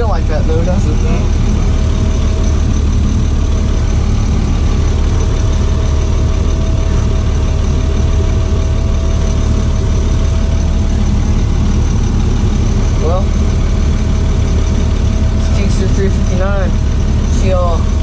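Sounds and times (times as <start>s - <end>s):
thin engine whine: 0.0s - 18.0s
truck engine rumbling: 0.0s - 18.0s.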